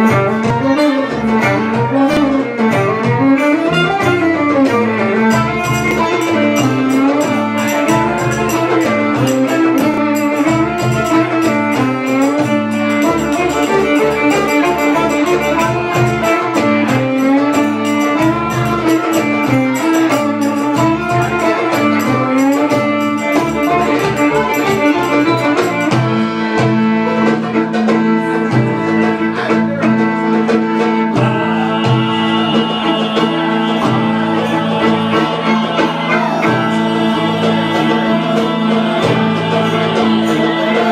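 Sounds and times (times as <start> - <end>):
bass guitar: 0.0 - 40.9
hand-drum strokes: 0.0 - 40.9
plucked lute: 0.0 - 40.9
violin: 0.0 - 40.9.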